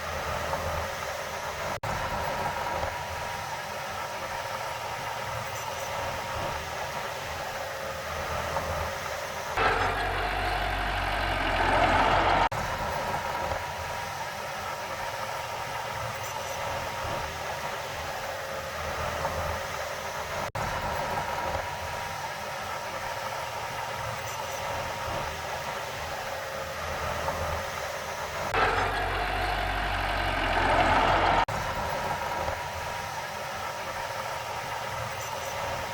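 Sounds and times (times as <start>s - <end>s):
heavy machinery diesel engine running: 0.0s - 35.9s.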